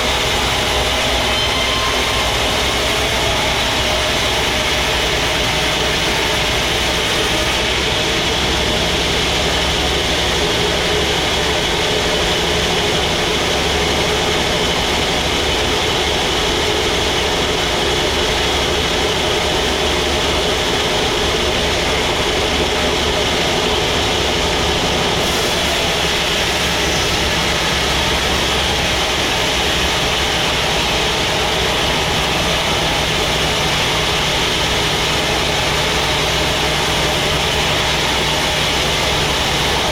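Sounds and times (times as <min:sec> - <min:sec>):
sawmill machinery droning: 0:00.0 - 0:39.9.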